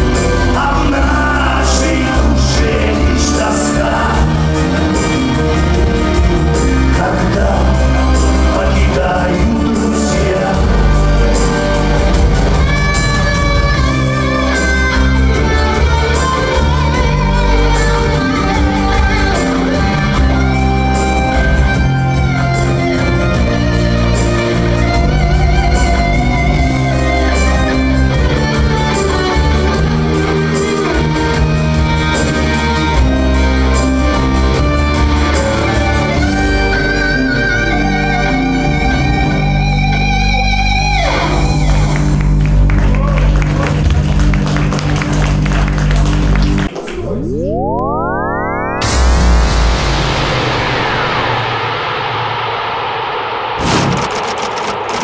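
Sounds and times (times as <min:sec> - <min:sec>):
live band playing: 0:00.0 - 0:47.7, 0:48.8 - 0:52.7.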